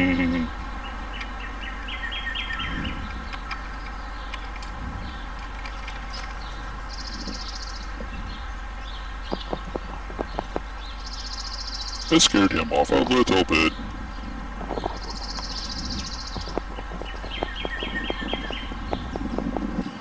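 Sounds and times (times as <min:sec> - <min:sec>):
sharp clicks: 0:00.0 - 0:20.0
songbird chirping: 0:00.0 - 0:20.0.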